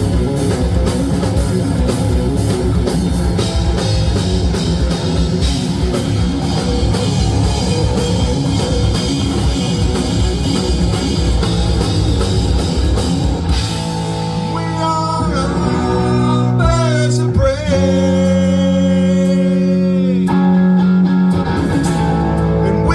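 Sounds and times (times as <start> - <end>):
drum kit: 0.0 - 19.6, 21.2 - 22.9
electric guitars: 0.0 - 22.9.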